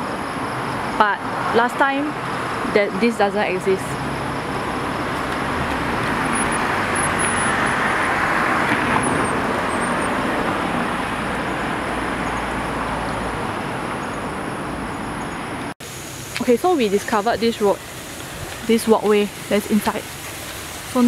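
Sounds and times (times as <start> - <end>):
passing vehicles rushing: 0.0 - 21.0.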